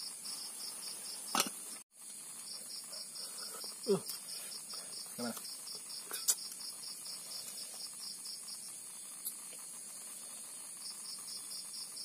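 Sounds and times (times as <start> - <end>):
continuous high insect buzz: 0.0 - 12.0
night insects chirping: 0.0 - 12.0.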